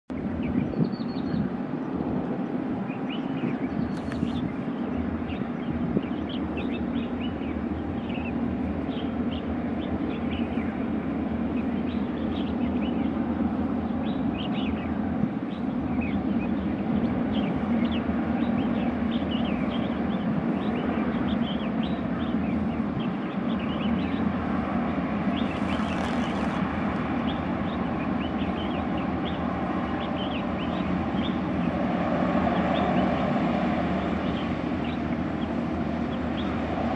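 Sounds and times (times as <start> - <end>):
small birds chirping: 0.1 - 36.9
boat engine drone: 1.6 - 36.9.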